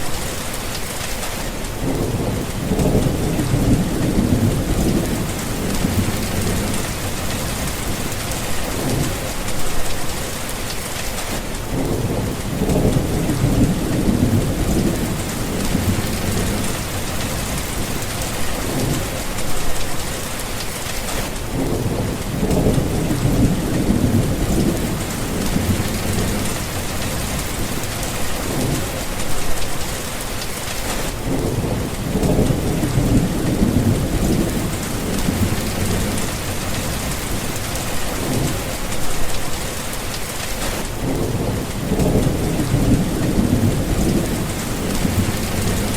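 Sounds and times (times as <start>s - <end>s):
rain pouring: 0.0s - 45.9s
low rolling thunder: 1.8s - 10.3s, 11.7s - 20.1s, 21.4s - 29.6s, 31.1s - 39.4s, 40.8s - 45.9s.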